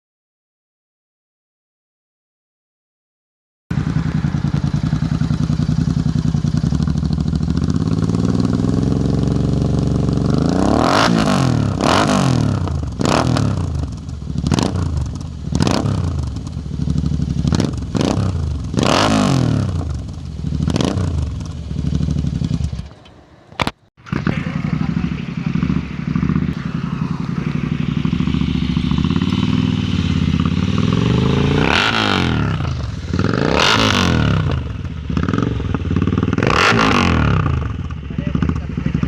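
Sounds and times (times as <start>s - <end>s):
motorcycle engine idling and revving: 3.7s - 39.0s.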